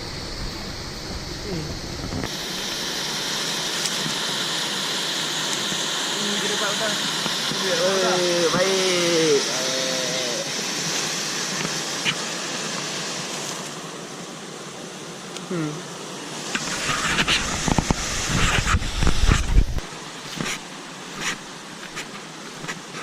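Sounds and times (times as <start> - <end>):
flowing water rushing: 0.0 - 14.3, 16.1 - 23.0.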